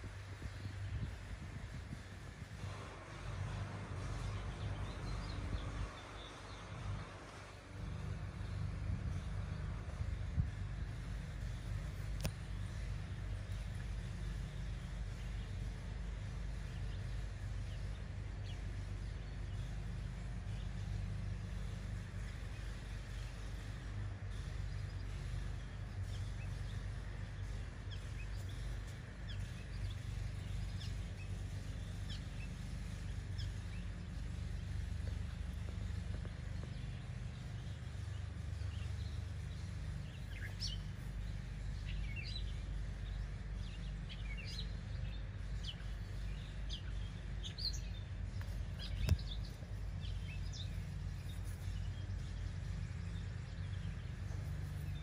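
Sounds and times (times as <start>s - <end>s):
steady low rumble: 0.0s - 55.0s
small birds chirping: 3.1s - 55.0s.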